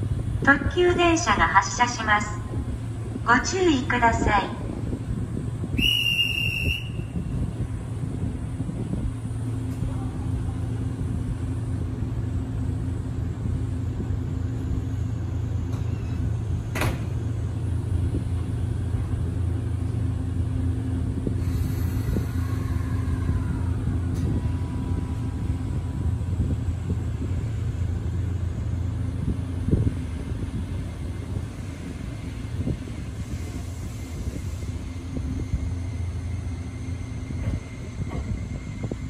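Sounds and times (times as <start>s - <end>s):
train equipment rumble and hum: 0.0s - 39.0s.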